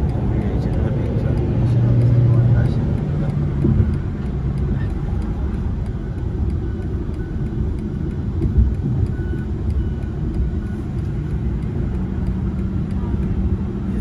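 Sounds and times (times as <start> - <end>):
car interior road noise: 0.0 - 14.0.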